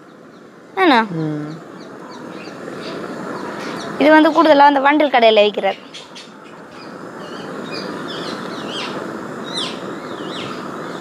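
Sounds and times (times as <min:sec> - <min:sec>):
small birds chirping: 0:00.0 - 0:11.0
steady rushing background noise: 0:01.6 - 0:11.0.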